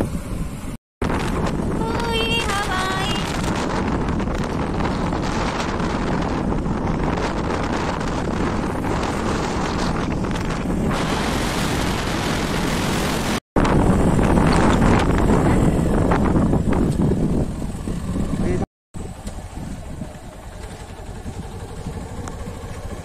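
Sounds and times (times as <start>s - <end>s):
vehicle engine and road noise: 0.0s - 23.0s
wind rushing over microphone: 0.0s - 23.0s.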